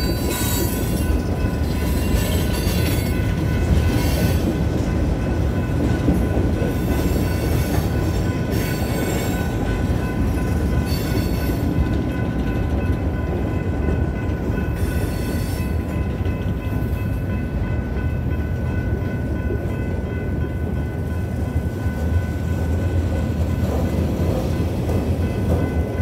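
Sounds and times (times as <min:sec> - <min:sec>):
crossing bells ringing: 0:00.0 - 0:26.0
freight train cars rolling past: 0:00.0 - 0:26.0.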